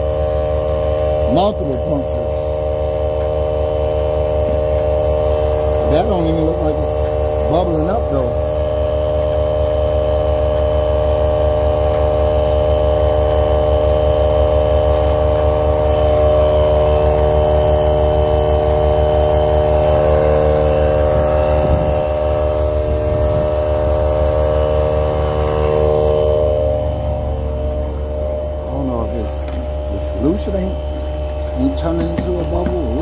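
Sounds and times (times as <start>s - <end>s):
electric air pump humming: 0.0s - 33.0s.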